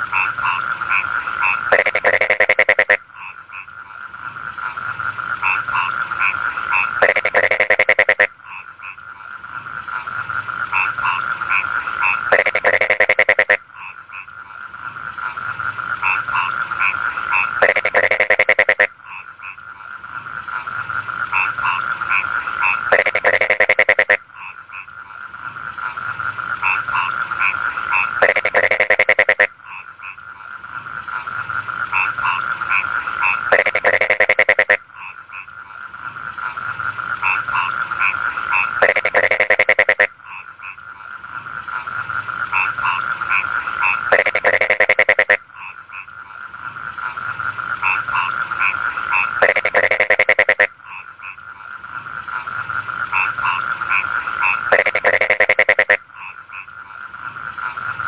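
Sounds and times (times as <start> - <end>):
short repeated frog notes: 0.0 - 3.8, 4.6 - 9.2, 10.3 - 14.4, 15.2 - 19.8, 20.9 - 25.0, 25.8 - 30.4, 31.5 - 35.8, 36.4 - 41.1, 41.8 - 58.0
frog rattling croak: 0.0 - 58.0
high frog chorus: 0.0 - 58.0.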